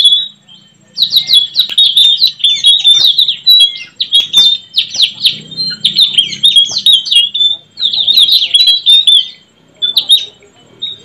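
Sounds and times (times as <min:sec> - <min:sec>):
parrots chirping: 0:00.0 - 0:11.0.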